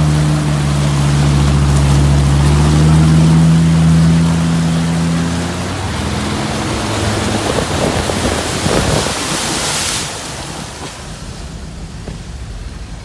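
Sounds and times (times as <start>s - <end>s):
diesel engine running low: 0.0s - 13.0s
floodwater rushing and splashing: 0.0s - 13.0s.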